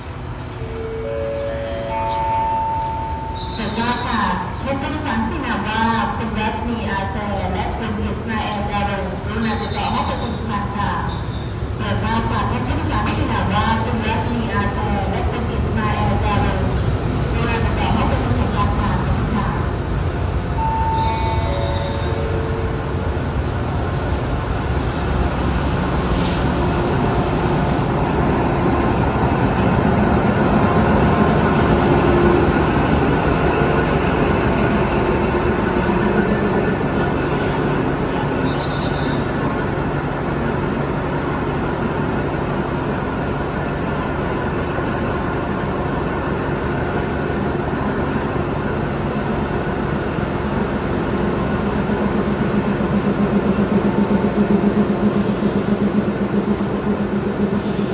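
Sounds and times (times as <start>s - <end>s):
diesel train rumbling: 0.0s - 57.9s.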